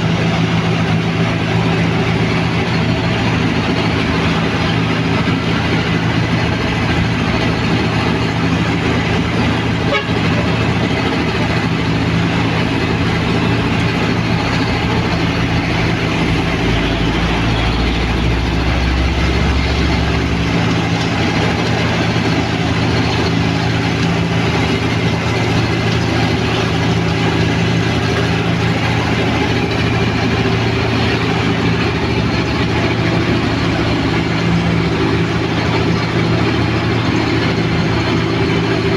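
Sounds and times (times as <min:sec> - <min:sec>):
diesel engine under load: 0:00.0 - 0:38.9
milling drum grinding asphalt: 0:00.0 - 0:38.9.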